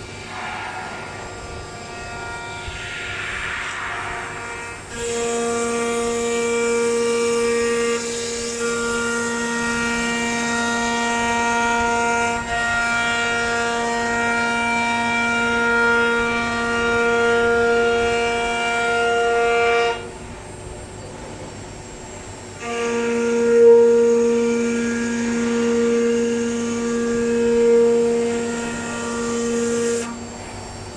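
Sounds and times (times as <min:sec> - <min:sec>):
router spindle whine: 0:00.0 - 0:30.9.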